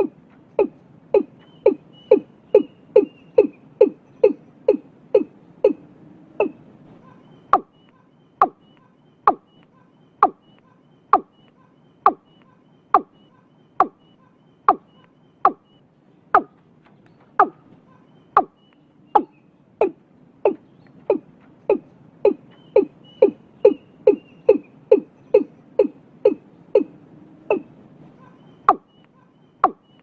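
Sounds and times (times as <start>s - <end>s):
watercock calling: 0.0s - 5.8s, 6.4s - 15.8s, 16.4s - 16.6s, 17.2s - 30.0s.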